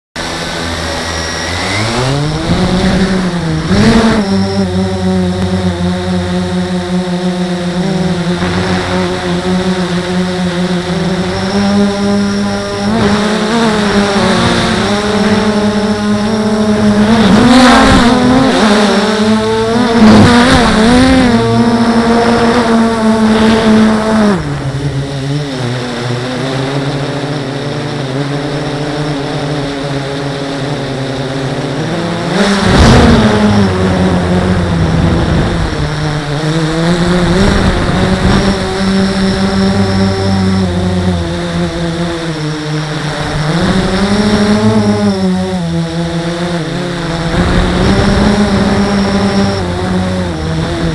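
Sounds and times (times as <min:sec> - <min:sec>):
quadcopter propellers whirring: 0:00.2 - 0:50.9
rushes of noise: 0:00.2 - 0:50.9.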